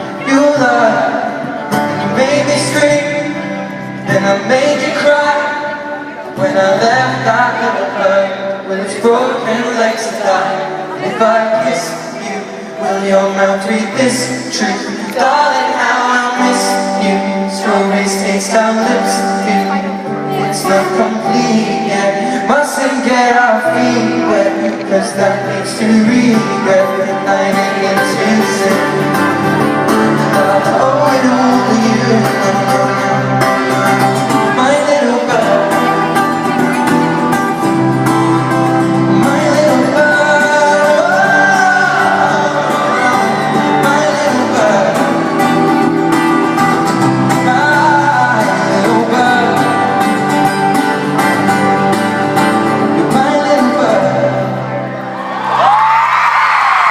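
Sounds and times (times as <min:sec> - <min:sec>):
man singing long gliding notes: 0:00.0 - 0:50.8
acoustic guitar: 0:00.0 - 0:56.9.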